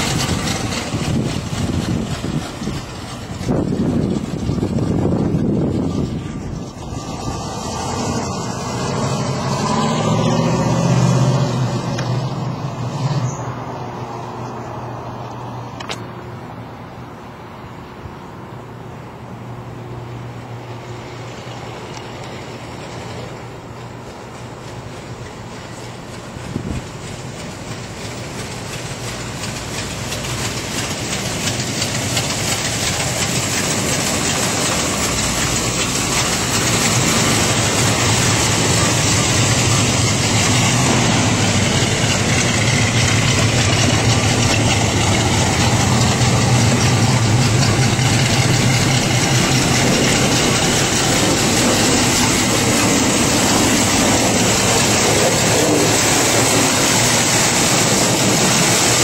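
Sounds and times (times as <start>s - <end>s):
truck engine idling: 0.0s - 14.6s, 18.6s - 59.0s.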